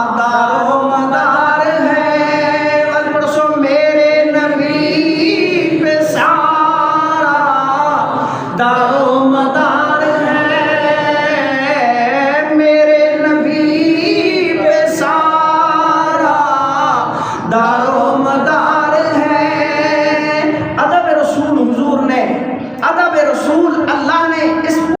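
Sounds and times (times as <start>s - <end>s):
person singing devotional song: 0.0s - 25.0s.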